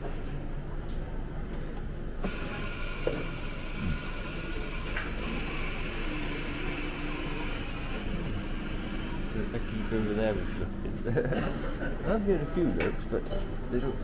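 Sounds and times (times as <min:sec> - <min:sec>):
steady mechanical whir: 0:00.0 - 0:11.2.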